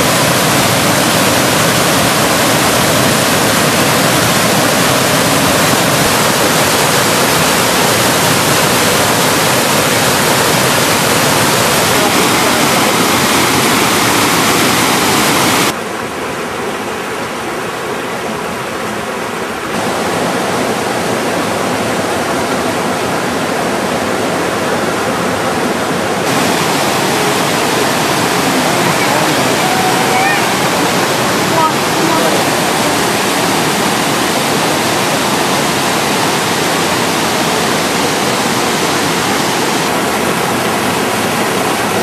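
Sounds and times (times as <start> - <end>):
distant falling water: 0.0 - 42.0
water rushing over rocks: 0.0 - 42.0.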